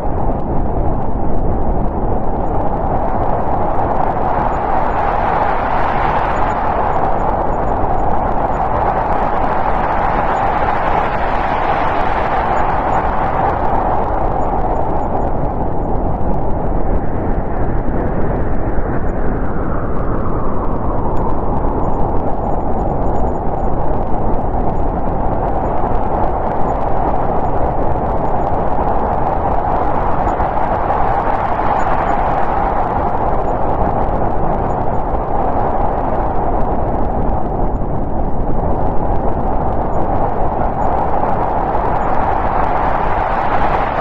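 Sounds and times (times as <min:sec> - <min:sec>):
howling wind: 0:00.0 - 0:44.0.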